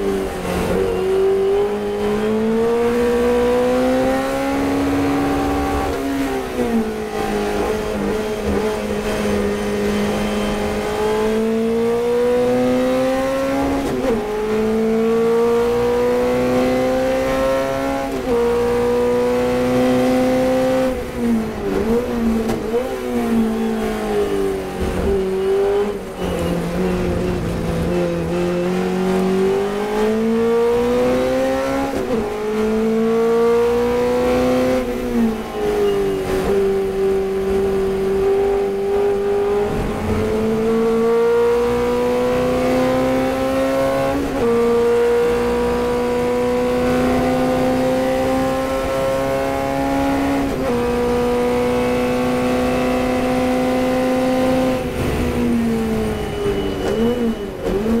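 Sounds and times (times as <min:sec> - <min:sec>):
racing car engine at full throttle: 0:00.0 - 0:58.0.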